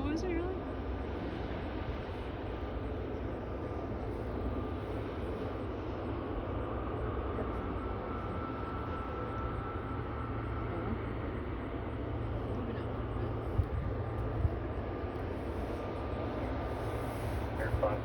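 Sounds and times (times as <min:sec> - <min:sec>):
aircraft engines rumbling: 0:00.0 - 0:18.0.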